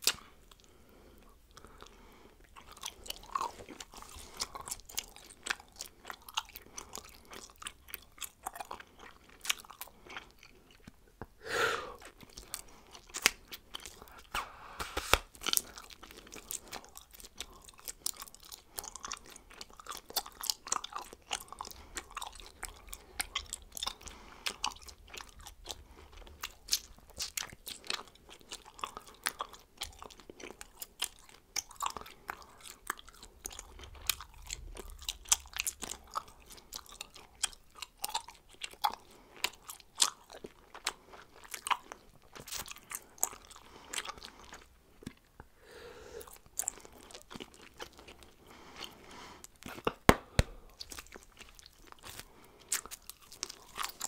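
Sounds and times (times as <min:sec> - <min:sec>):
person chewing bubblegum: 0:00.0 - 0:54.0.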